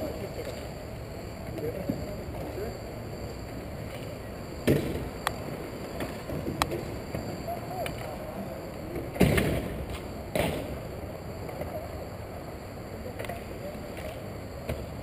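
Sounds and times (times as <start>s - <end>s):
inline skate wheels rolling: 0.0s - 15.0s.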